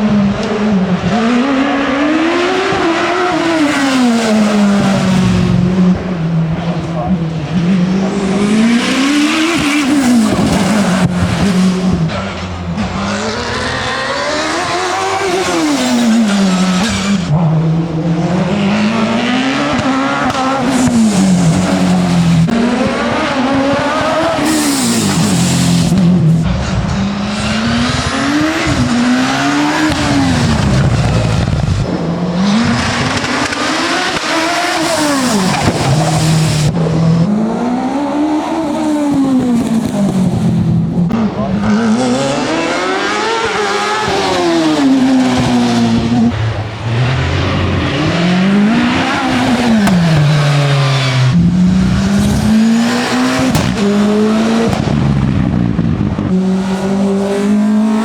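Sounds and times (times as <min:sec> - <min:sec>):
racing car engine at full throttle: 0:00.0 - 0:58.0.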